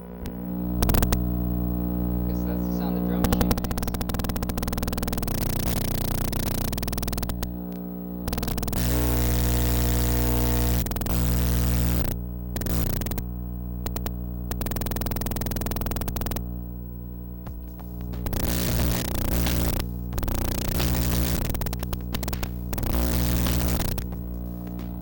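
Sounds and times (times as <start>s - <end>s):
buzzing mains hum: 0.0s - 25.0s
crackling static: 0.0s - 25.0s.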